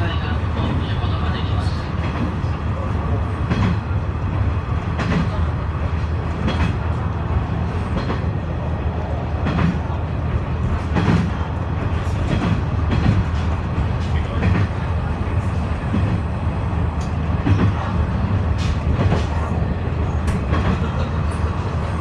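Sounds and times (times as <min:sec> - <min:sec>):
railcar low rumble: 0:00.0 - 0:22.0.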